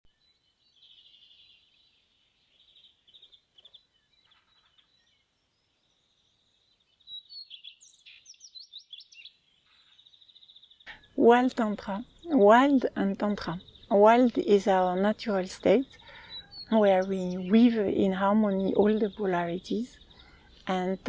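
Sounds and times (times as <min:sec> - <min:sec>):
birdsong chirps and trills: 0:00.1 - 0:21.0.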